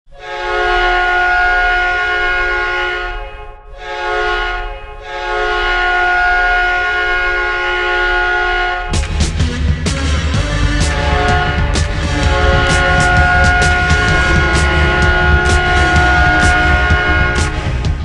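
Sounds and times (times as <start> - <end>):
hockey goal horn: 0.1 - 9.1, 10.8 - 18.0.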